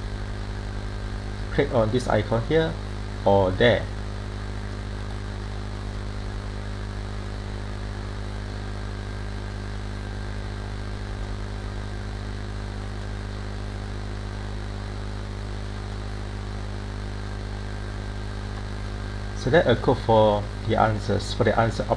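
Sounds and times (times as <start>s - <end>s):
steady electrical hum: 0.0s - 21.9s.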